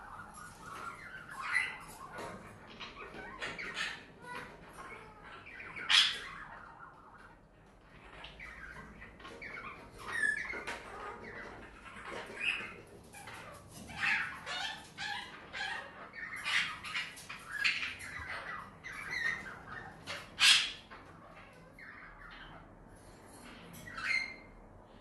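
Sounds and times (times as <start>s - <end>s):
pet birds chirping and squawking: 0.0s - 25.0s.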